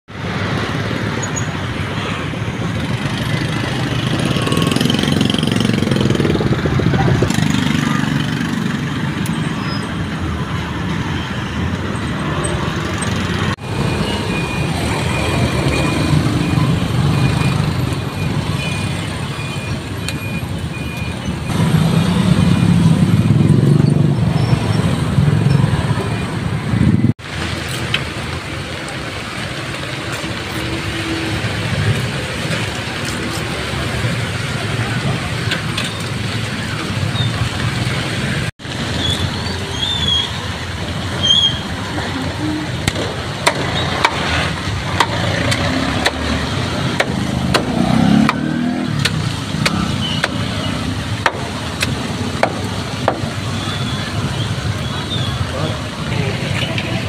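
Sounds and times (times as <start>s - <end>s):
vehicles passing on busy road: 0.1s - 57.0s.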